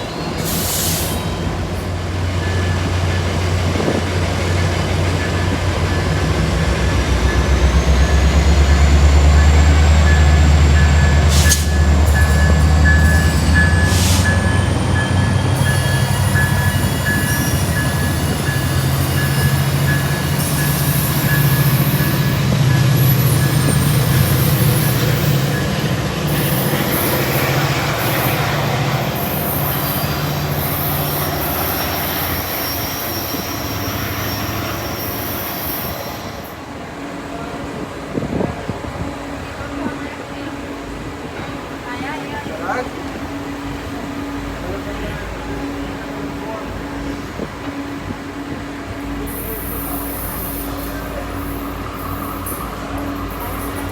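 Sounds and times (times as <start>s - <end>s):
diesel locomotive engine rumble: 0.0s - 53.9s
train cars rolling on rails: 0.0s - 53.9s.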